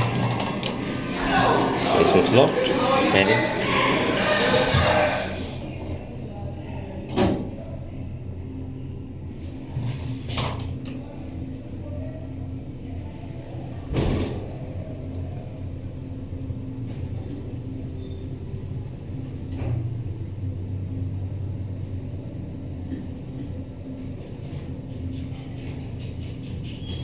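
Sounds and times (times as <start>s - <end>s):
elevator hydraulic hum: 0.0s - 27.0s.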